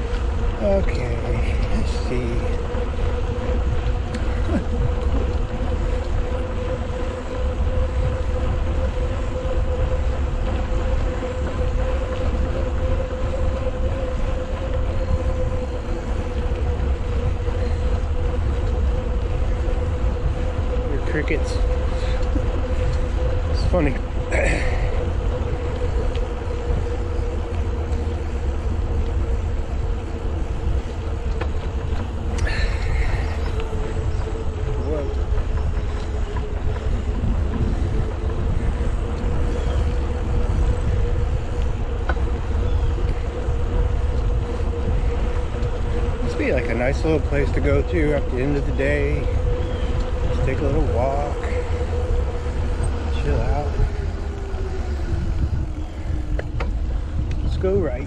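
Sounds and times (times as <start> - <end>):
bike tyres on pavement: 0.0 - 58.0
faint steady hum: 0.0 - 58.0
low rumble: 0.0 - 58.0
wind on microphone: 0.0 - 58.0.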